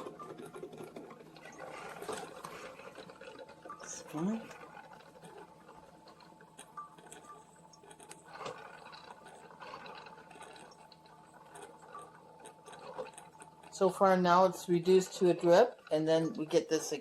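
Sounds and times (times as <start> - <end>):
small ticks: 0.0 - 13.9
coffee maker sputtering and dripping: 0.0 - 17.0
faint steady hum: 0.0 - 17.0.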